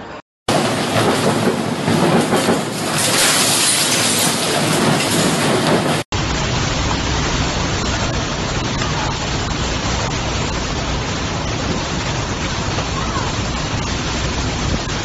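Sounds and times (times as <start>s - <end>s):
wind-driven heavy rain: 0.5s - 15.0s.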